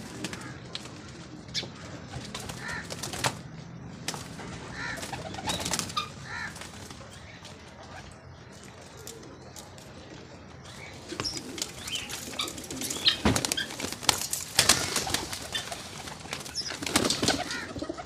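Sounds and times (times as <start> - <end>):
pigeons flapping wings: 0.0 - 7.6, 11.0 - 18.0
pigeons cooing: 0.0 - 18.0.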